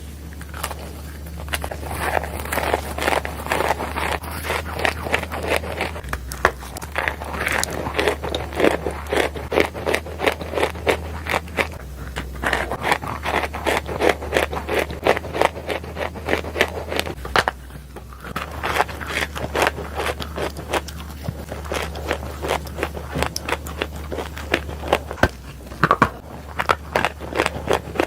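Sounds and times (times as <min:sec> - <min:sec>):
clay being chewed crunching: 0:00.0 - 0:28.0
faint low hum: 0:00.0 - 0:28.0.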